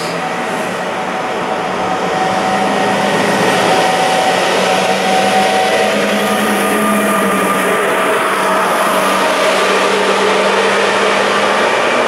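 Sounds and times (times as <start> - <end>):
electric locomotive whine: 0.0 - 12.0
train wheels rumbling on rail: 0.0 - 12.0.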